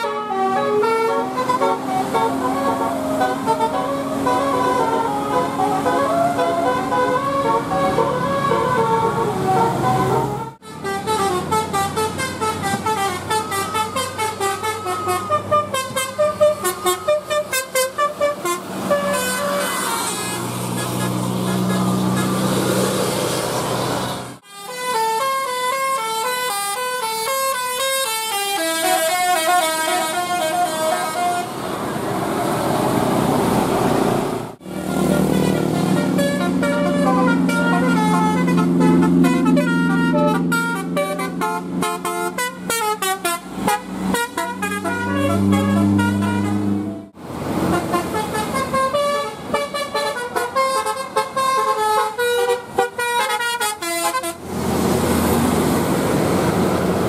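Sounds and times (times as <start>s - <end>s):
multi-tone bus air horn melody: 0.0s - 23.2s, 24.3s - 31.6s, 34.6s - 54.6s
bus engine running: 0.0s - 24.4s, 25.5s - 57.0s.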